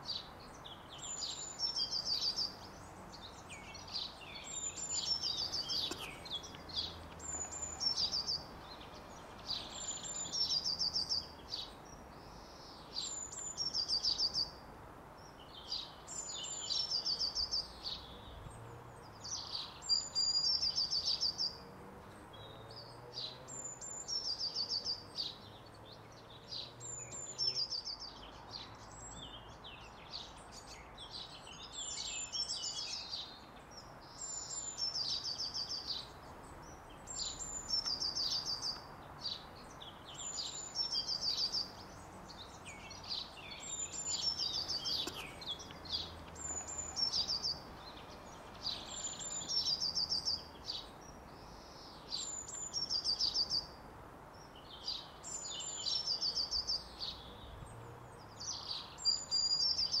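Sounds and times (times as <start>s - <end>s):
bird chirping: 0.0s - 60.0s
outdoor background hiss: 0.0s - 60.0s
songbird singing: 0.0s - 60.0s.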